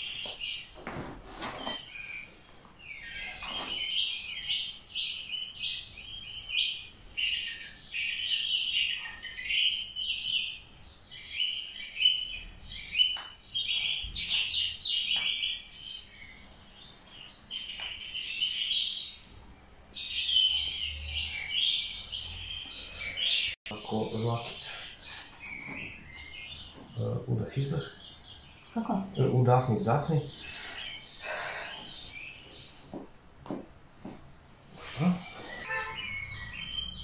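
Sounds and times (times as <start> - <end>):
small bird chirping: 1.4 - 37.0.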